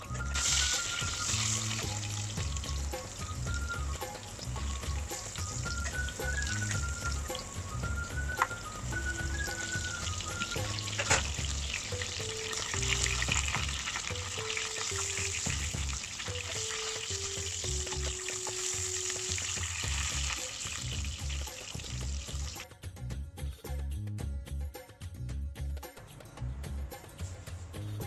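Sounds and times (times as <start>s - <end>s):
vegetables sizzling in hot oil: 0.0s - 22.6s.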